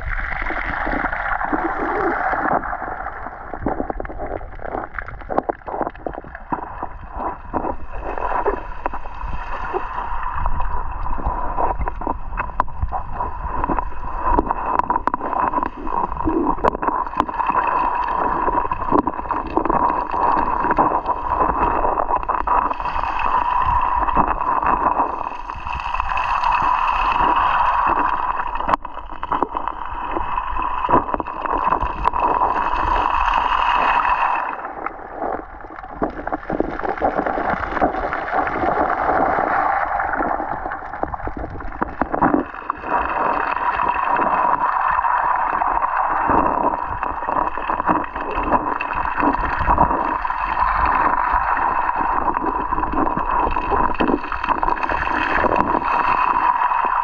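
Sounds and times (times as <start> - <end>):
water sloshing underwater: 0.0 - 57.0.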